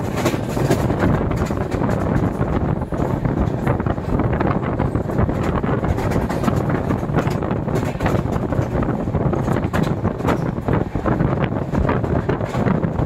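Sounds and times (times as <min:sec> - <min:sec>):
train coaches rumbling on track: 0:00.0 - 0:13.0
wind buffeting microphone: 0:00.0 - 0:13.0.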